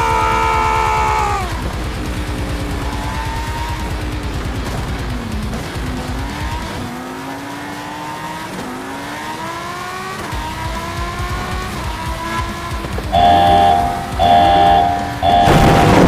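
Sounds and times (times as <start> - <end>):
car engine accelerating through gears: 0.1 - 16.0.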